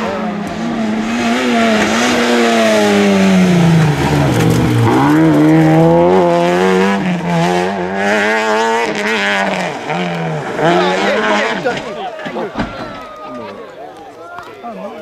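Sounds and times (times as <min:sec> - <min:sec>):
rally car engine revving: 0:00.0 - 0:12.7.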